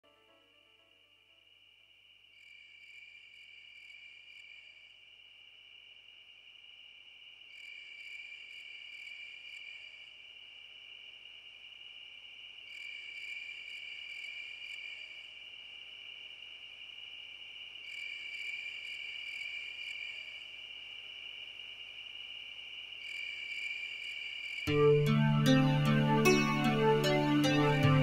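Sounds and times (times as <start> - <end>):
insects buzzing: 0.4 - 28.0
pulsing insect call: 0.4 - 28.0.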